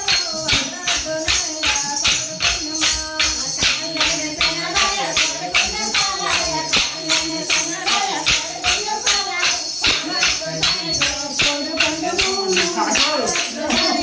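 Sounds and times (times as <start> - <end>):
group singing: 0.0 - 14.0
wooden sticks clacking together: 0.0 - 14.0.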